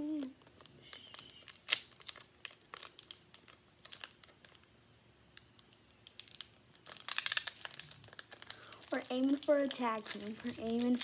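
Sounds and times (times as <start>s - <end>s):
foil wrapper crinkling: 0.1s - 4.7s, 5.4s - 11.0s.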